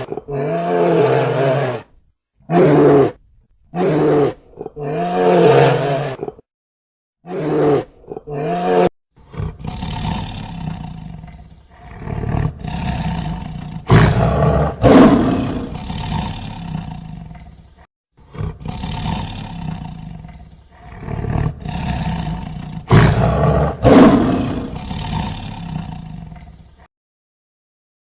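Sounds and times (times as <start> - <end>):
lion roaring: 0.0 - 1.9, 2.5 - 6.4, 7.2 - 17.6, 18.3 - 26.6.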